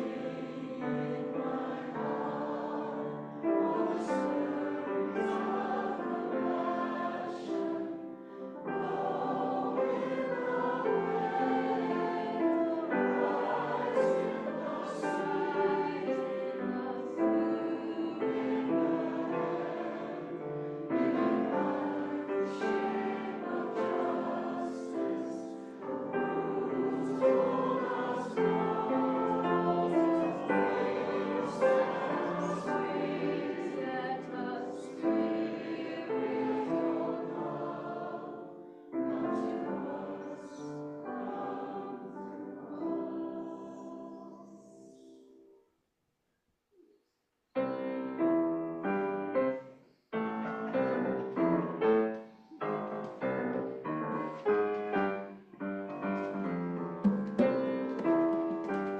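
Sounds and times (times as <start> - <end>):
choir singing: 0.0 - 45.6, 47.6 - 58.9
piano: 0.0 - 45.6, 47.5 - 58.9.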